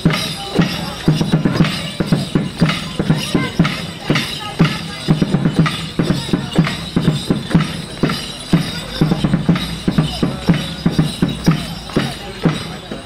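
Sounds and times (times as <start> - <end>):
bass drum beating: 0.0 - 13.0.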